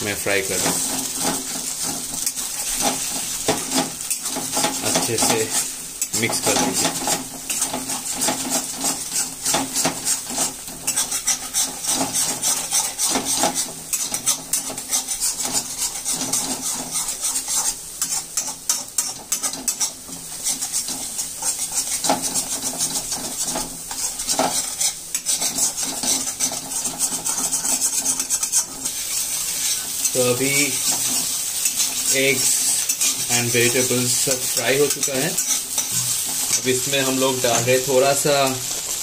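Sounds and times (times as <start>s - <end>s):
food sizzling in hot oil: 0.0s - 39.0s
spatula scraping a pan: 0.0s - 39.0s.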